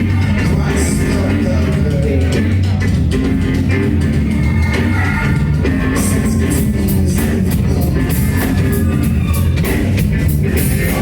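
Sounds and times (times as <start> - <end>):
rock band playing live: 0.0 - 11.0.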